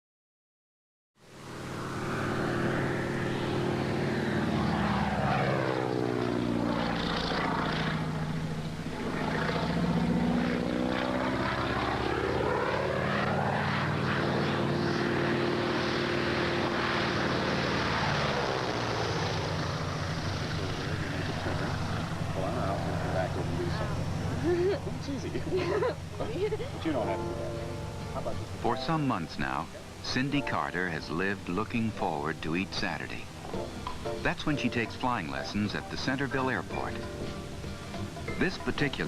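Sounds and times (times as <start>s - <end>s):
propeller airplane engine droning: 1.2s - 39.0s.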